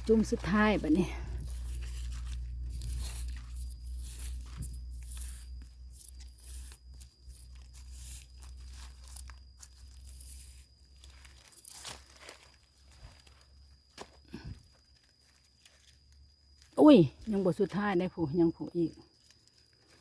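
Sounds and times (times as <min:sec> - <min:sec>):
soil and leaf litter crunching: 0:00.0 - 0:20.0.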